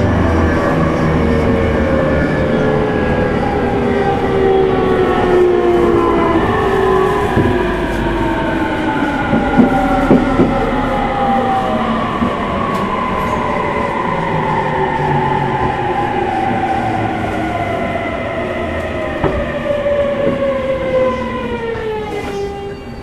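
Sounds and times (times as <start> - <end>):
wheels rumbling on rail: 0.0 - 23.0.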